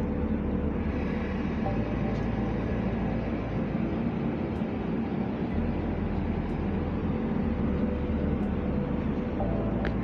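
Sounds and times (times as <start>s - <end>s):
electric locomotive humming: 0.0s - 10.0s.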